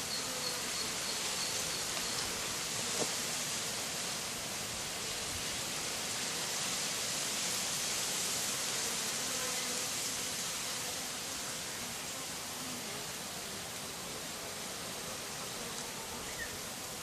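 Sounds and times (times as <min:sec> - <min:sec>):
bees buzzing at a hive: 0:00.0 - 0:17.0.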